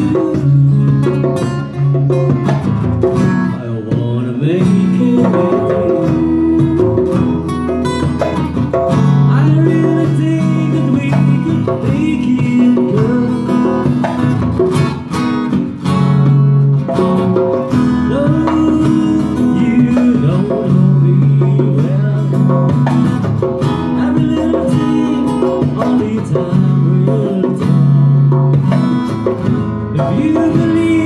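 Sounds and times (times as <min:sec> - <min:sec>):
acoustic guitar playing: 0:00.0 - 0:31.0
hand drum beat: 0:00.0 - 0:31.0.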